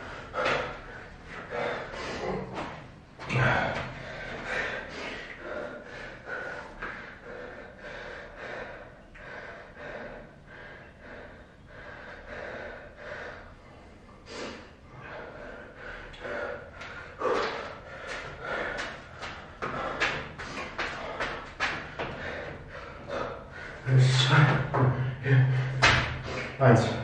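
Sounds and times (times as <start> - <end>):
man panting hard: 0.0 - 27.0.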